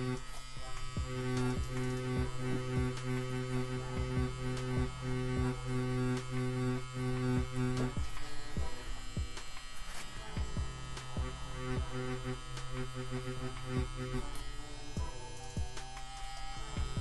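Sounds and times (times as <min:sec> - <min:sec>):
tattoo machine humming: 0:00.0 - 0:17.0.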